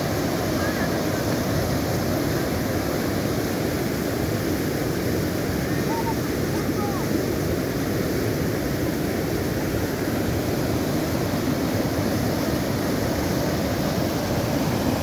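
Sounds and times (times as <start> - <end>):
floodwater rushing over rocks: 0.0 - 15.0.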